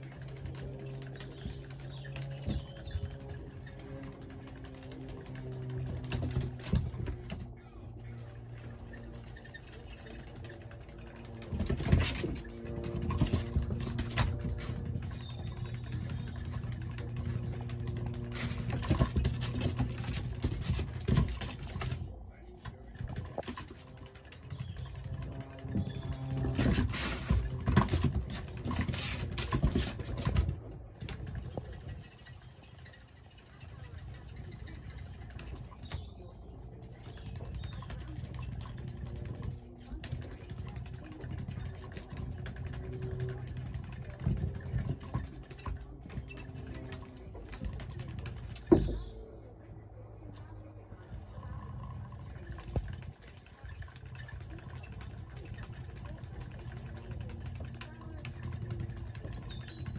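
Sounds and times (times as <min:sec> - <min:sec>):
toy motor hum: 0:00.0 - 0:07.3, 0:08.0 - 0:22.0, 0:22.8 - 0:30.5, 0:31.1 - 0:36.1, 0:36.8 - 0:49.2, 0:51.2 - 0:59.9.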